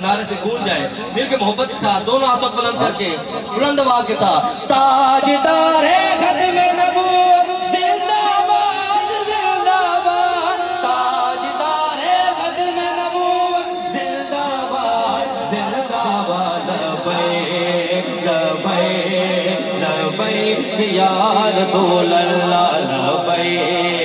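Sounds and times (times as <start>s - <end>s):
men singing a devotional chant: 4.2s - 24.0s.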